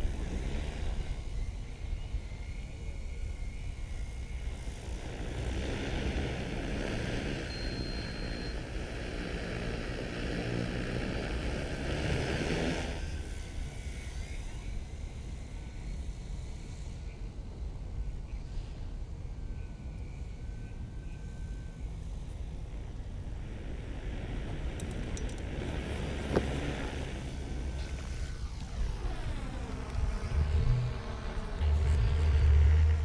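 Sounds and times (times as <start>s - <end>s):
drone propellers whirring: 0.0s - 18.7s, 19.3s - 33.0s
low wind rumble: 0.0s - 33.0s.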